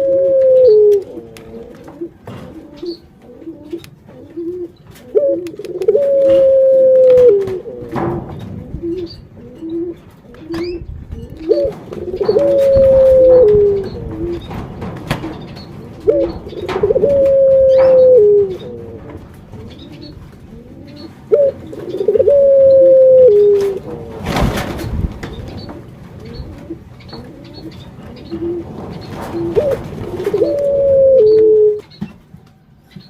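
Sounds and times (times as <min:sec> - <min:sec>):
dove cooing: 0:00.0 - 0:31.8.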